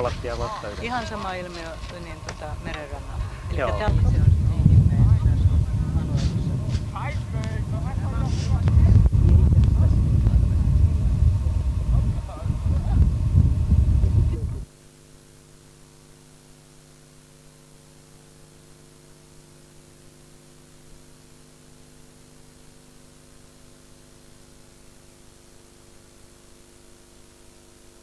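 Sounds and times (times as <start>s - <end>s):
low electrical hum: 0.0s - 28.0s
tape hiss: 0.0s - 28.0s.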